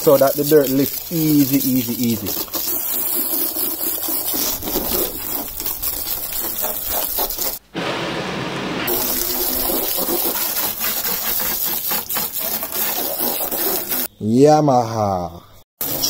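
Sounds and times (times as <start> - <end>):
hose water spraying and splashing: 0.0 - 7.6, 8.9 - 14.1, 15.8 - 16.0.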